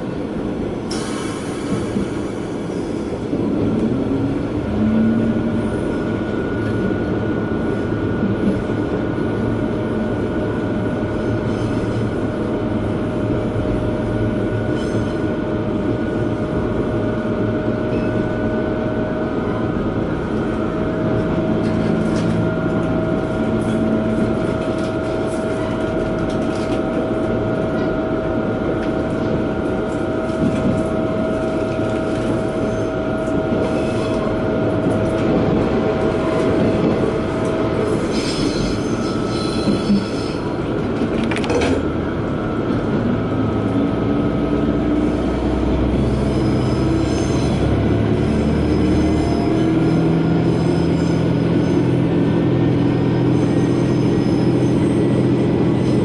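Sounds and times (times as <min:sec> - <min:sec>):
railcar engine rumble: 0:00.0 - 0:56.0
wheels rumbling on rails: 0:00.0 - 0:56.0.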